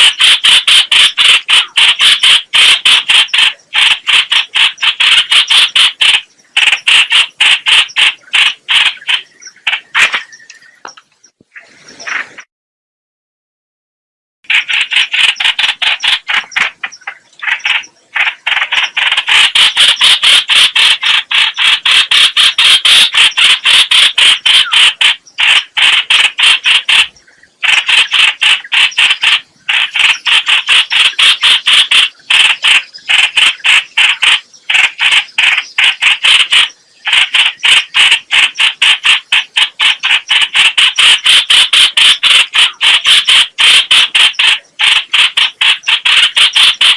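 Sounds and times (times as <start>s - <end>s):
bird chattering call: 0.0s - 11.0s, 14.5s - 46.9s.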